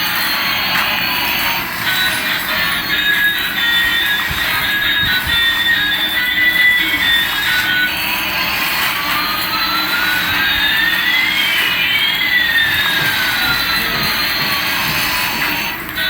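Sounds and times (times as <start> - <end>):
toy jet engine sound: 0.0 - 16.0.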